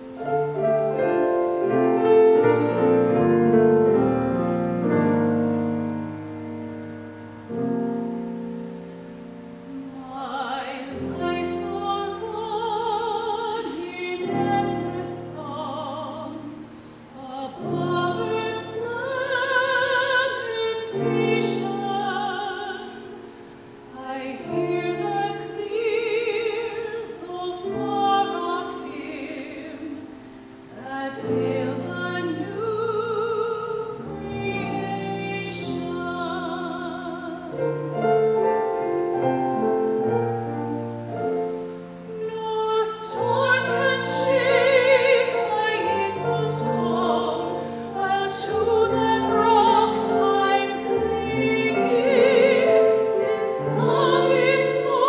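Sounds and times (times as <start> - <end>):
classical singing with vibrato: 0.0 - 55.0
piano accompaniment: 0.0 - 55.0.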